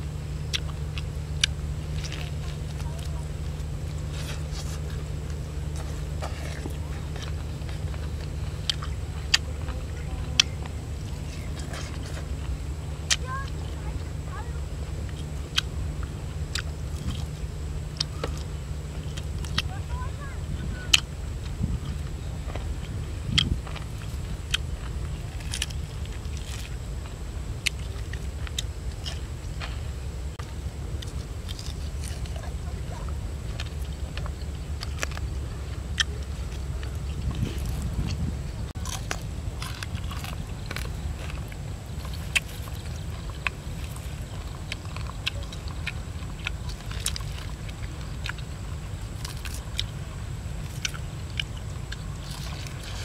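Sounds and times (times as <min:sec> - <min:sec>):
man chewing and smacking: 0:00.0 - 0:53.0
wind rumble on microphone: 0:00.0 - 0:53.0.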